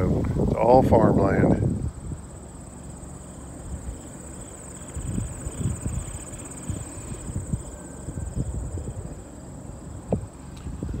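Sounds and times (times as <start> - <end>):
low rumbling: 0.0 - 11.0
insects trilling: 0.6 - 11.0.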